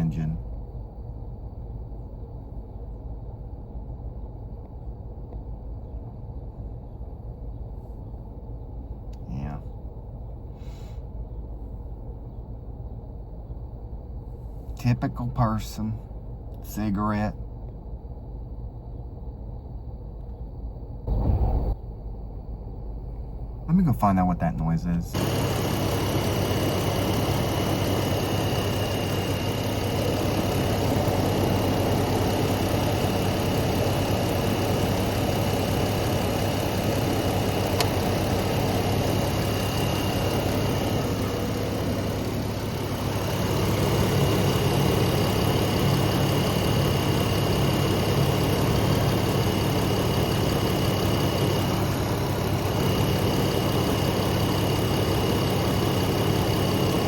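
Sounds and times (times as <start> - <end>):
engine idling with high whine: 0.0 - 57.0.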